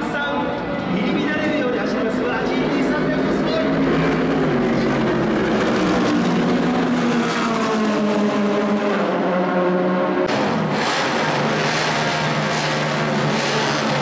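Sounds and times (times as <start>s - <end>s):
racing car engine revving: 0.5s - 14.0s.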